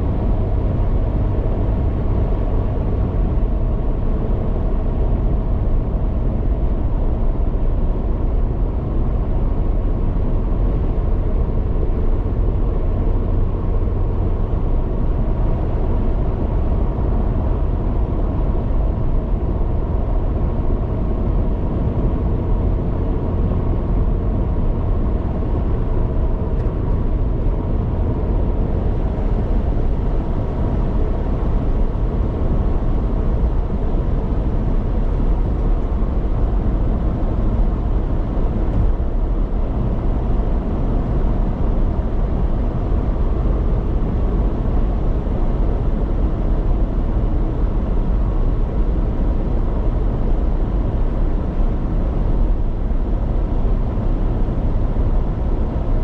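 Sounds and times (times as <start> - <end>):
car road noise: 0.0 - 56.0.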